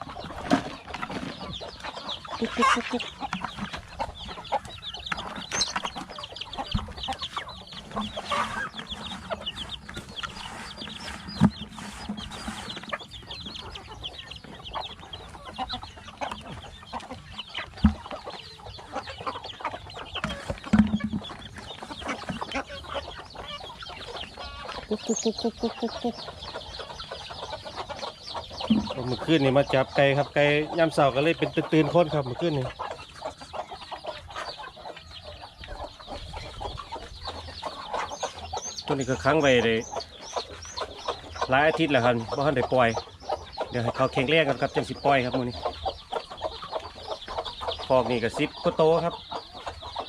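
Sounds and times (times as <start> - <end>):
chickens clucking: 0.0 - 50.0.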